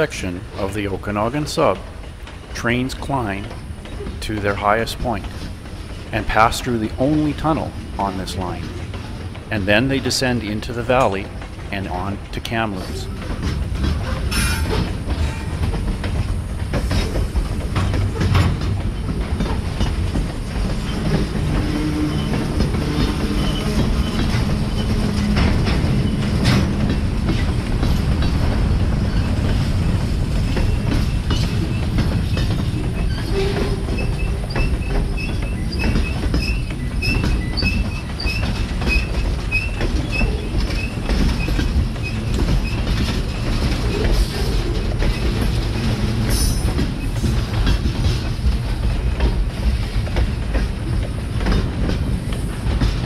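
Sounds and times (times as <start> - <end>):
freight train rumbling past: 0.0 - 53.0
steel wheels clattering over rail: 0.0 - 53.0.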